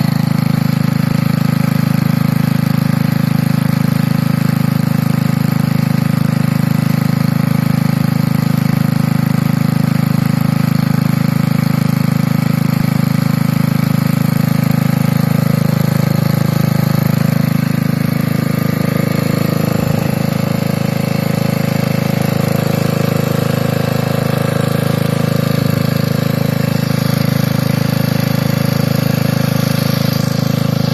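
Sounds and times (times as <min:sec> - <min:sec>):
small engine idling: 0:00.0 - 0:30.9.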